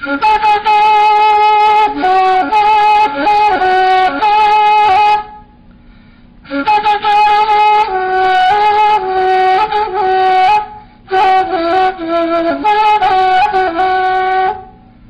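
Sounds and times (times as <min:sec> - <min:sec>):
end-blown reed flute melody: 0:00.0 - 0:05.4, 0:06.4 - 0:14.8.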